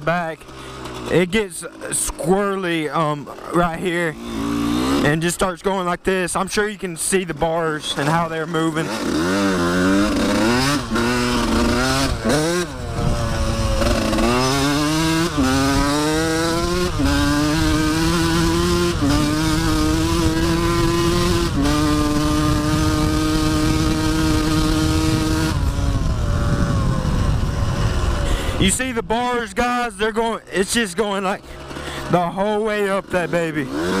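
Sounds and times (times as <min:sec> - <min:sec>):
dirt bike engine accelerating: 0:00.0 - 0:34.0.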